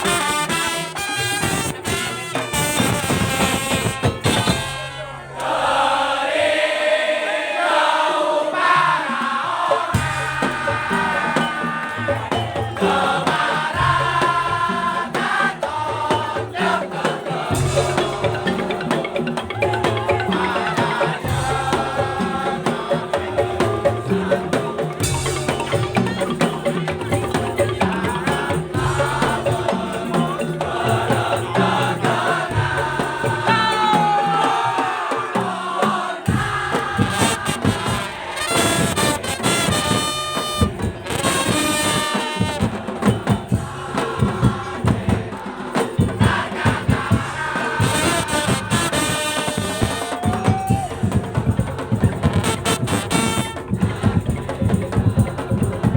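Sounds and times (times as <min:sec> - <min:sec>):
percussion ensemble playing: 0:00.0 - 0:55.9.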